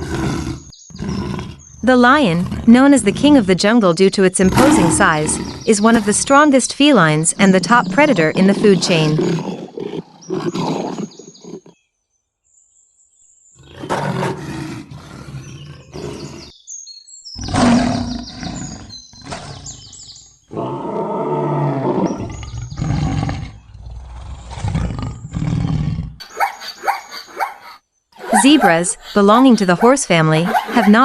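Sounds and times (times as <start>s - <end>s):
lions roaring and growling: 0.0s - 11.8s, 13.6s - 16.5s, 17.4s - 31.0s.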